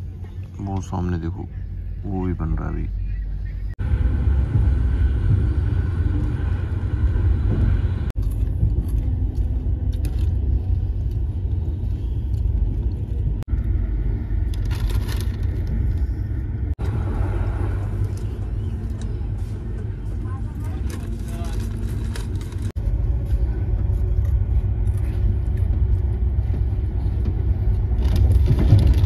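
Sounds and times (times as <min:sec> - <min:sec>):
train coach rumble: 0:00.0 - 0:29.0.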